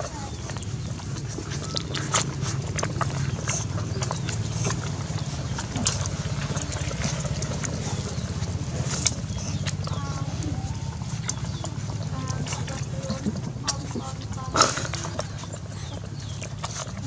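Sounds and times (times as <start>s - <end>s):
low hum: 0.0s - 17.0s
puppies sucking and smacking: 0.0s - 17.0s.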